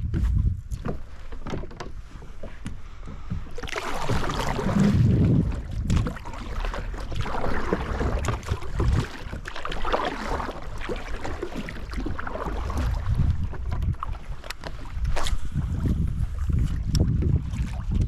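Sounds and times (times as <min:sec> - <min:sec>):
water sloshing against kayak: 0:00.0 - 0:18.0
wind buffeting microphone: 0:00.0 - 0:18.0.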